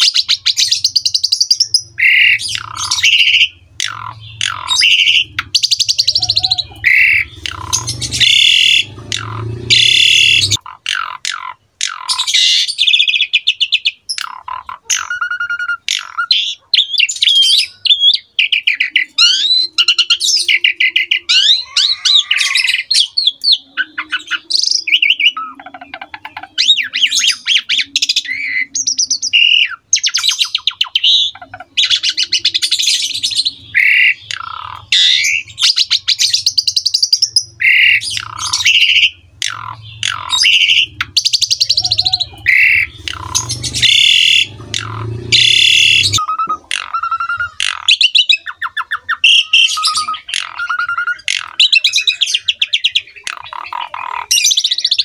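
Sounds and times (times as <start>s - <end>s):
myna bird singing: 0.0s - 55.0s.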